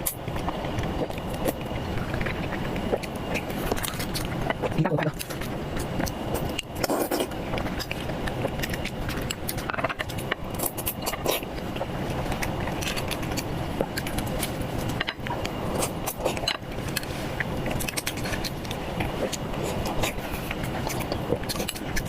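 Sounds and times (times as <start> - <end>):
chewing: 0.0 - 22.0
eating clicks and scrapes: 0.0 - 22.0
low background rumble: 0.0 - 22.0.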